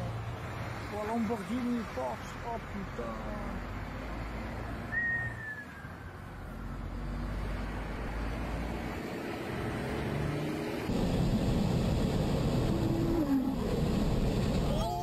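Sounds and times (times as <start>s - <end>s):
vehicle driving on highway: 0.0s - 15.0s.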